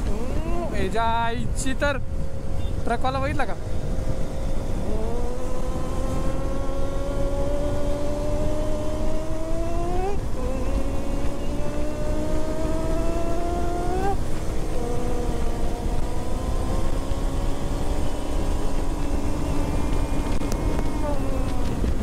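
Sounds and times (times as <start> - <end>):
motorcycle engine accelerating: 0.0 - 1.3, 3.6 - 22.0
road and wind noise: 0.0 - 22.0.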